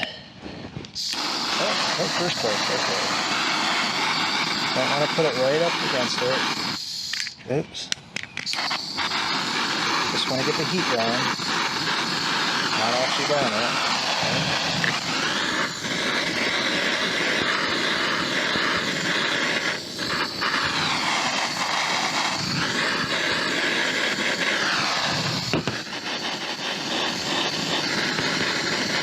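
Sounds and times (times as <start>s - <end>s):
butane torch hissing flame: 0.0s - 29.0s.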